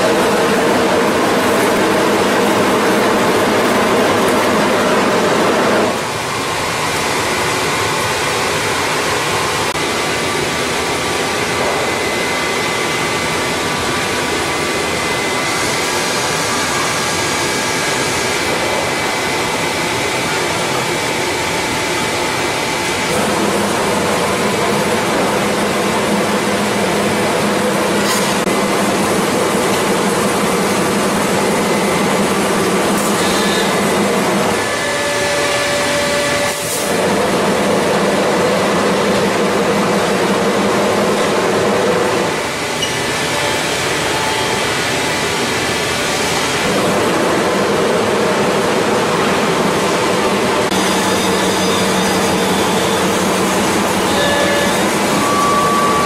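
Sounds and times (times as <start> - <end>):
factory machinery rumble: 0.0 - 56.0.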